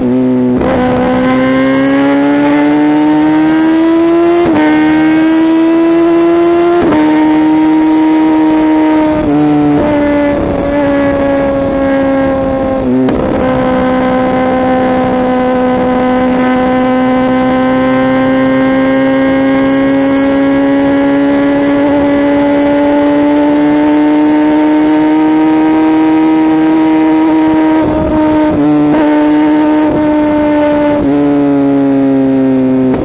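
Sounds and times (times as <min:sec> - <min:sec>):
motorcycle engine at high revs: 0:00.0 - 0:33.0.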